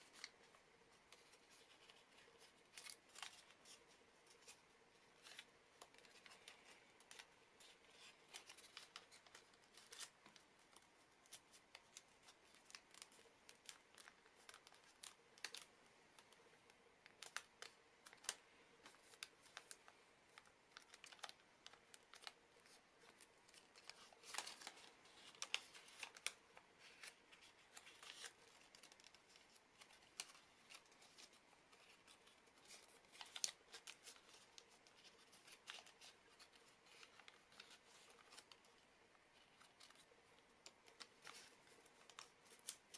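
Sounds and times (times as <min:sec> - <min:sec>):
paper crackling and crinkling: 0:00.0 - 0:42.9.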